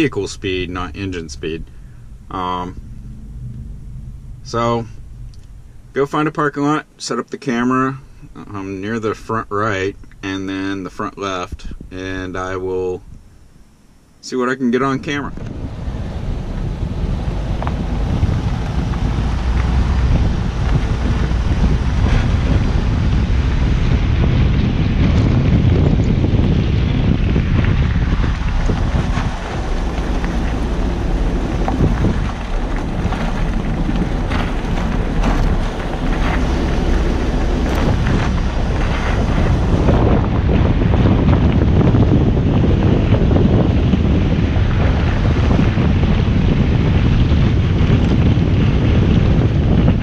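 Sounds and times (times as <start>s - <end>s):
tyre and road noise: 0.0s - 7.0s, 15.0s - 50.0s
wind buffeting microphone: 0.0s - 13.8s, 14.8s - 50.0s.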